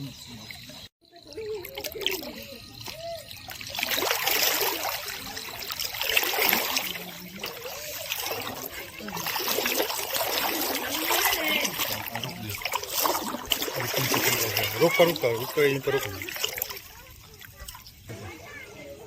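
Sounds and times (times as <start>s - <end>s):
floodwater rushing and splashing: 1.6s - 18.8s.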